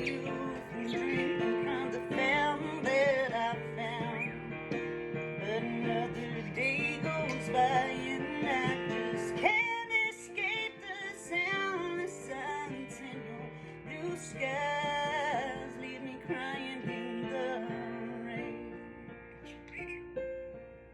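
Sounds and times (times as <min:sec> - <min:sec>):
woman singing: 0:00.0 - 0:04.8, 0:05.4 - 0:20.1
guitar accompaniment: 0:00.0 - 0:20.9.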